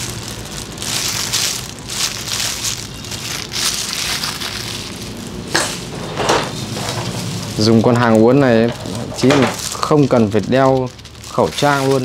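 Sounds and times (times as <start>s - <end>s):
plastic glove rustling: 0.0s - 12.0s.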